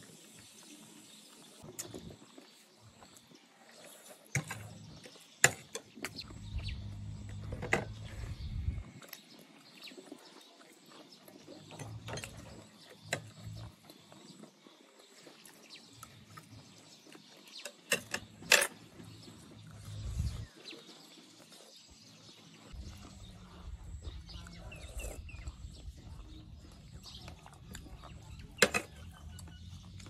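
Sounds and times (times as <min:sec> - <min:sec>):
chewing crispy food: 0:00.0 - 0:30.0.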